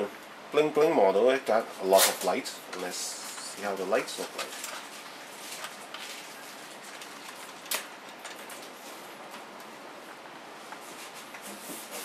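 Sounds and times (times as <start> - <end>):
quiet steady hiss: 0.0 - 12.0.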